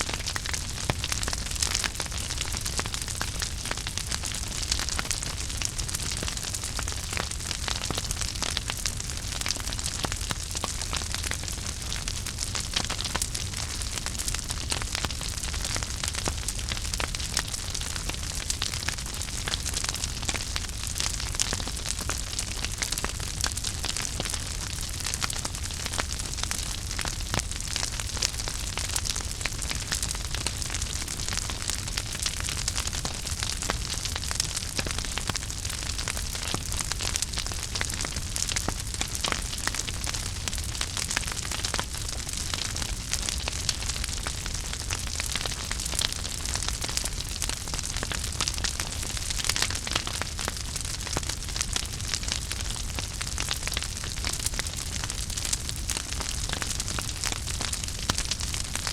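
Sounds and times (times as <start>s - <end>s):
fire crackling and popping: 0.0s - 58.9s
fire rumbling and hissing: 0.0s - 58.9s.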